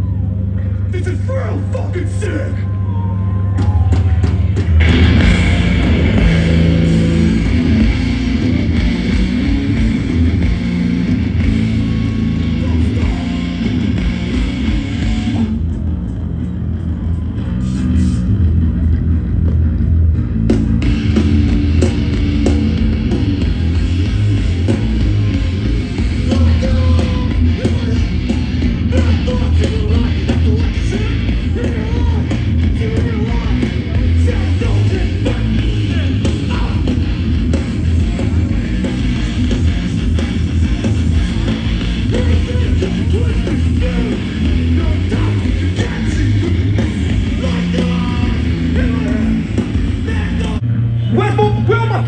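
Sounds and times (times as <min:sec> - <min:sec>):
punk band playing: 0:00.0 - 0:52.0.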